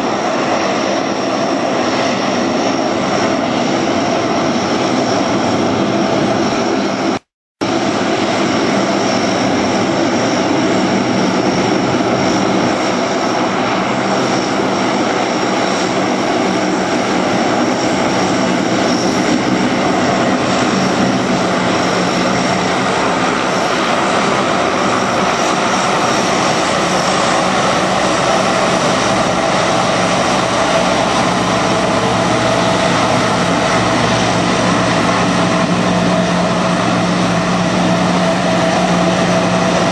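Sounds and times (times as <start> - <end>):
thin high engine whine: 0.0 - 39.9
turboprop engines droning: 0.0 - 39.9.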